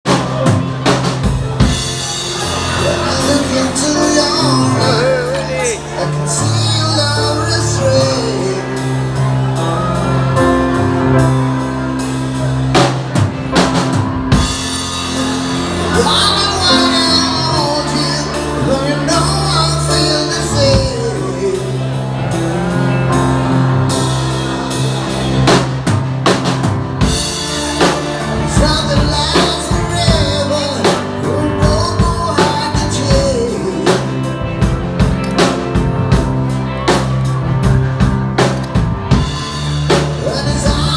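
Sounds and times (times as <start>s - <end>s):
drum kit: 0.0s - 40.9s
sustained bass notes: 0.0s - 40.9s
person singing: 0.1s - 12.9s, 13.6s - 25.7s, 27.2s - 40.9s.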